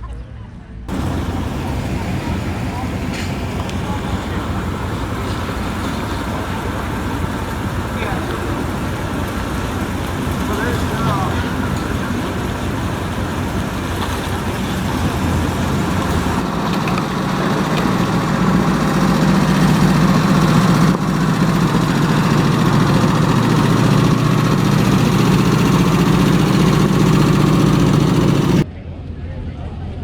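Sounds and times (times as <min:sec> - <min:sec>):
car engine idling: 0:00.9 - 0:28.6.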